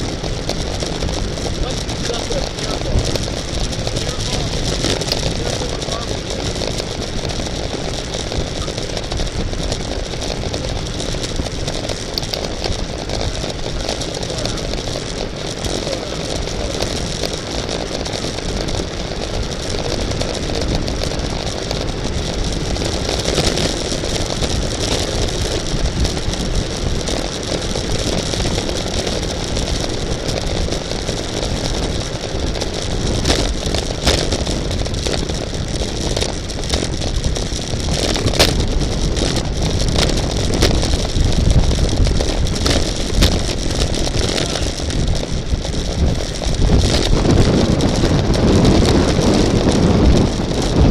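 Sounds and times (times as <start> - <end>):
wind and road noise of bicycle: 0.0 - 50.9.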